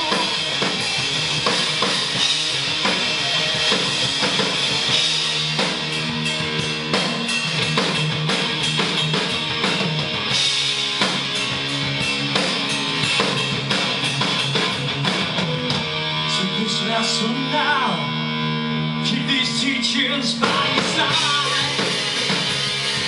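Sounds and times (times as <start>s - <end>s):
pounding drum kit: 0.0s - 18.3s, 19.4s - 23.0s
bass guitar: 0.0s - 23.0s
distorted electric guitars: 0.0s - 23.0s.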